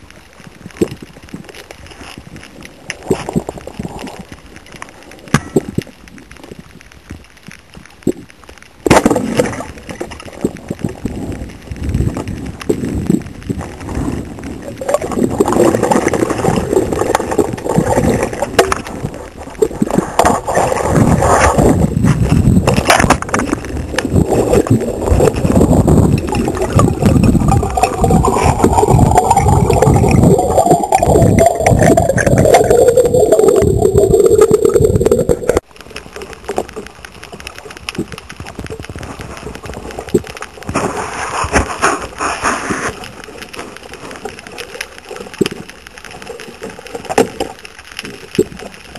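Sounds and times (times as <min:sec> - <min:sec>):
water sloshing and gurgling: 0:00.0 - 0:48.9.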